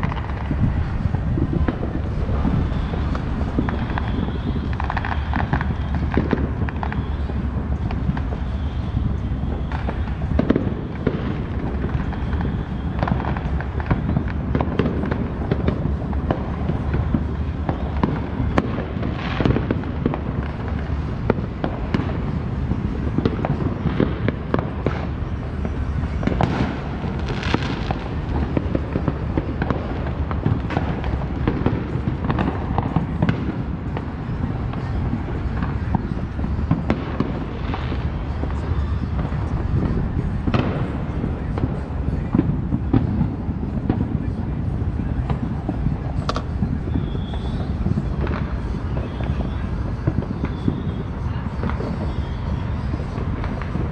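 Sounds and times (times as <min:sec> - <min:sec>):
fireworks popping and banging: 0:00.0 - 0:53.9.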